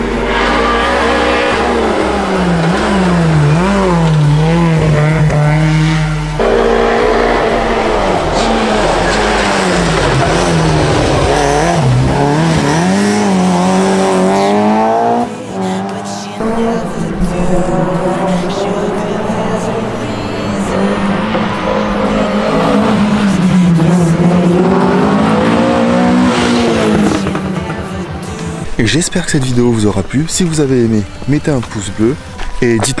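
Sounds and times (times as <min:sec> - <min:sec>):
rally car engine revving: 0:00.0 - 0:30.7.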